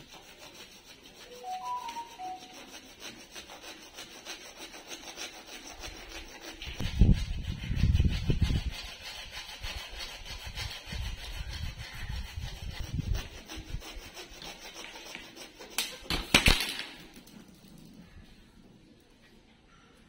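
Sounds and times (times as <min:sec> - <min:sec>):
hacksaw sawing plastic pipe: 0:00.0 - 0:16.2.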